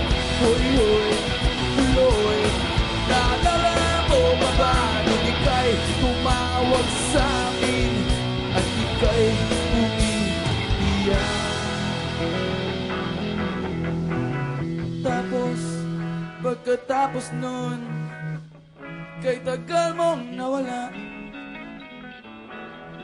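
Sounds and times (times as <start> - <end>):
electric guitar lead: 0.0 - 23.0
live rock band playing: 0.0 - 23.0.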